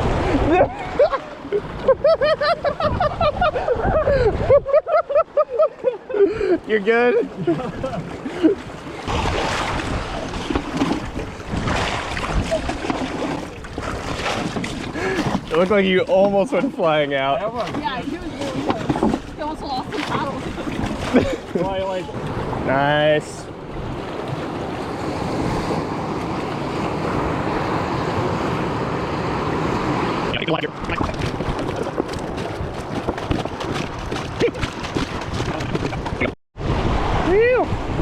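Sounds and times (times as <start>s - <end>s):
wind buffeting microphone: 0.0s - 5.0s, 7.4s - 38.0s
rushing churning whitewater: 6.7s - 38.0s.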